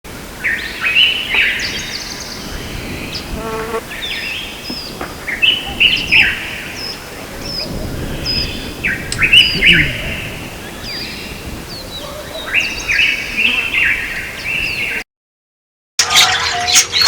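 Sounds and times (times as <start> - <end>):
songbirds chirping and singing: 0.1 - 15.0
low-pitched bird call: 0.4 - 15.0.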